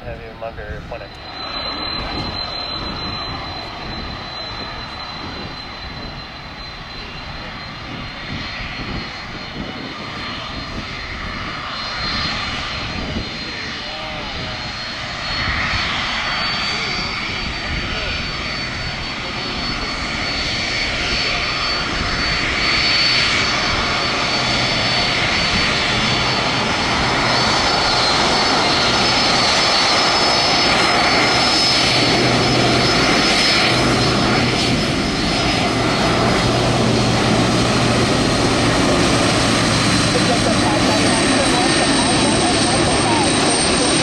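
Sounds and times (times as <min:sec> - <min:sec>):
jet engines rushing and whining: 0:00.0 - 0:44.0.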